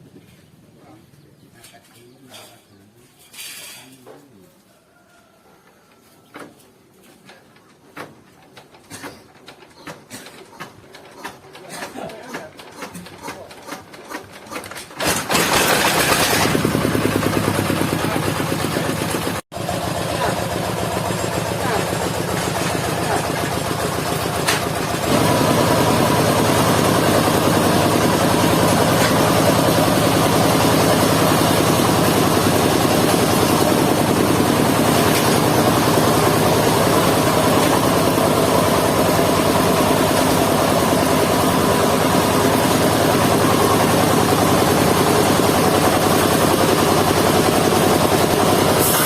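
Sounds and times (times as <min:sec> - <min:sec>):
sawmill engine running: 0:08.5 - 0:49.0.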